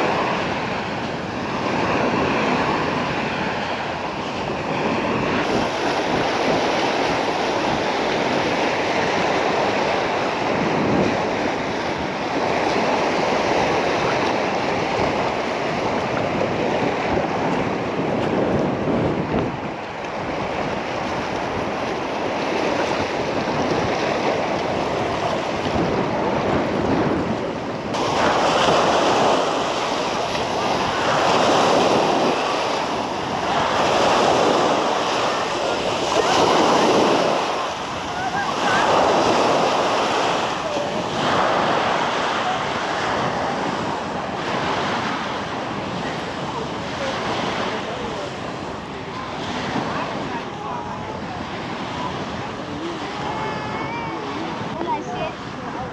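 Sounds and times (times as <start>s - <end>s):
surf washing onto beach: 0.0s - 55.9s
wind buffeting microphone: 0.0s - 55.9s.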